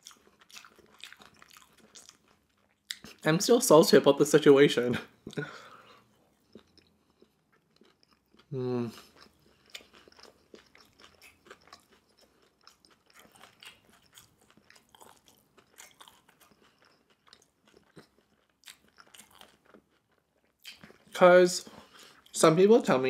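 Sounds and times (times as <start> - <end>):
chewing with soft crunches: 0.0 - 3.3, 5.3 - 22.4.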